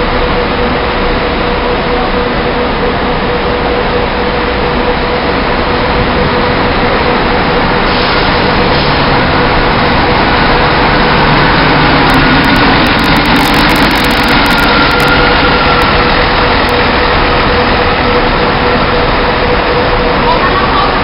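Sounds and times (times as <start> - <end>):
diesel engine idling: 0.0 - 21.0
steady whine: 0.0 - 21.0.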